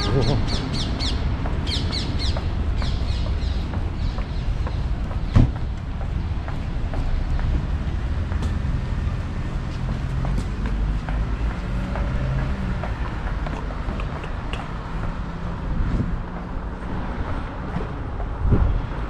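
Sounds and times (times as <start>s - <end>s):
low rumble of passing traffic: 0.0s - 19.0s.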